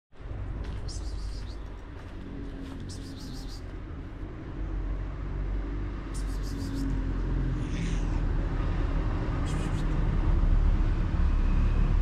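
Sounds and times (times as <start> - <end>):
steady low street rumble: 0.1 - 12.0.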